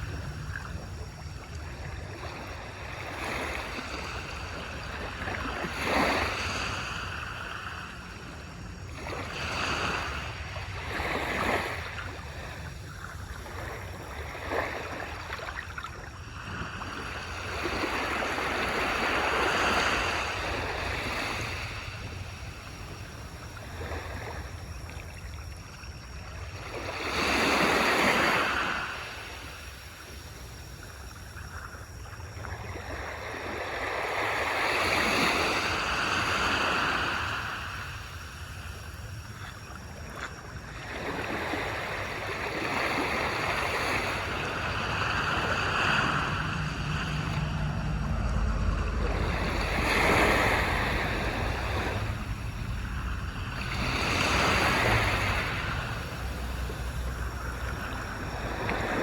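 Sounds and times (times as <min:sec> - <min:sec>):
small waves washing onto beach: 0:00.0 - 0:59.0.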